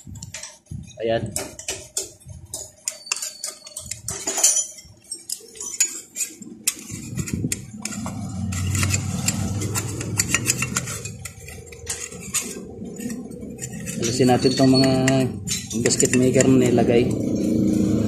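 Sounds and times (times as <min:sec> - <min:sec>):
metal engine parts clinking: 0:00.0 - 0:18.0.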